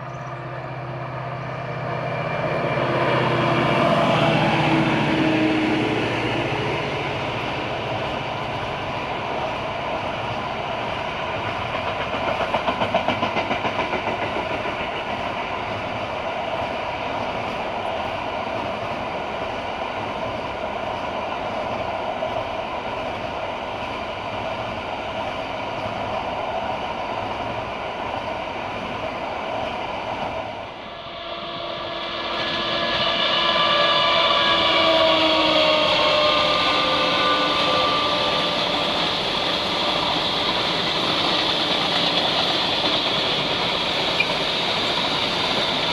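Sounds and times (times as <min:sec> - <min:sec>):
train cars rumbling past: 0:00.0 - 0:45.9.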